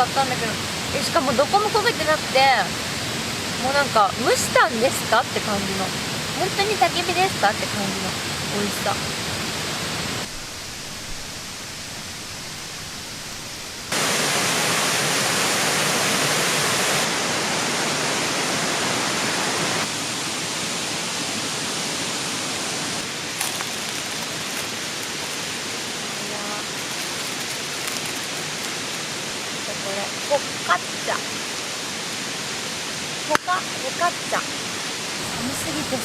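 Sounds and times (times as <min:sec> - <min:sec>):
steady rushing noise: 0:00.1 - 0:36.0.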